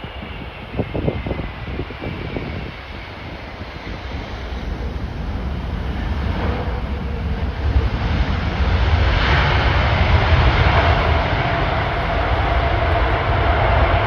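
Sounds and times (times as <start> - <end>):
jet airliner engine rumble: 0.0 - 14.0
steady engine whine: 0.0 - 14.0.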